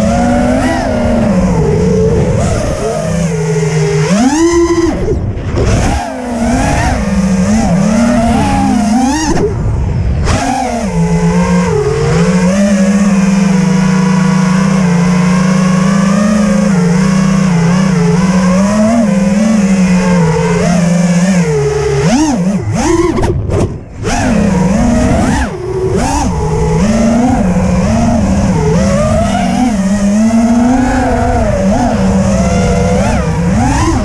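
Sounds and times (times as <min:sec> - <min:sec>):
quadcopter motor whine: 0:00.0 - 0:34.0.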